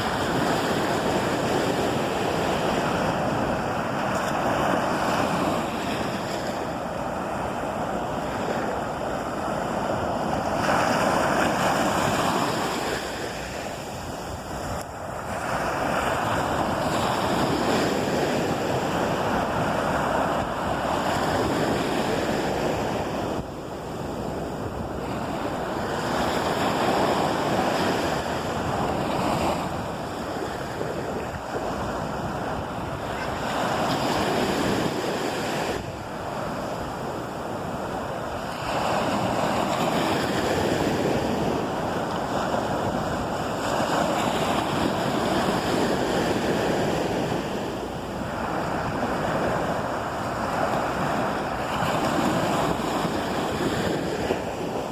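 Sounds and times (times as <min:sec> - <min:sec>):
ocean surf breaking: 0:00.0 - 0:54.9
wind on microphone: 0:00.0 - 0:54.9.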